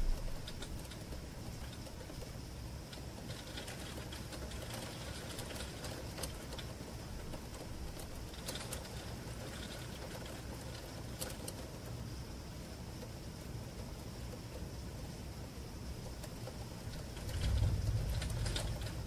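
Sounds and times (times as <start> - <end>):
low background noise: 0.0 - 19.0
rain tapping on window: 0.0 - 19.0.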